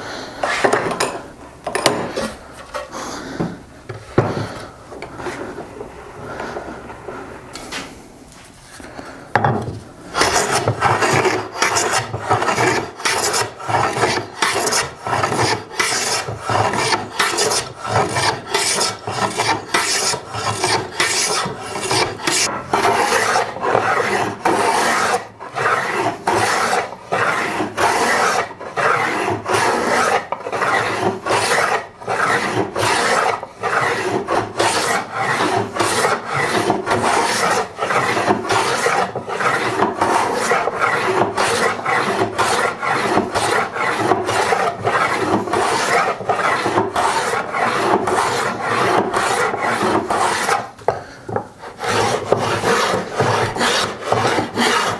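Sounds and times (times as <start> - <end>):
hand tool scraping wood: 0.2 - 9.5, 10.1 - 54.9.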